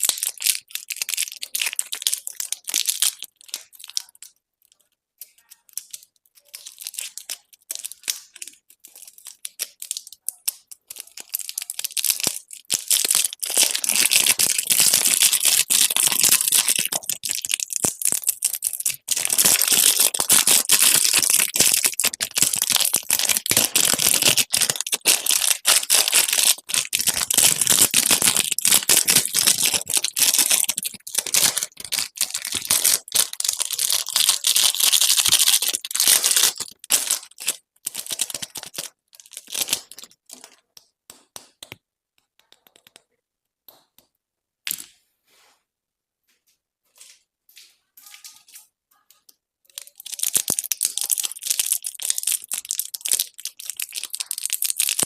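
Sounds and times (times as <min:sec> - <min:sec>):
candy wrapper crinkling: 0:00.0 - 0:41.8, 0:48.0 - 0:55.0.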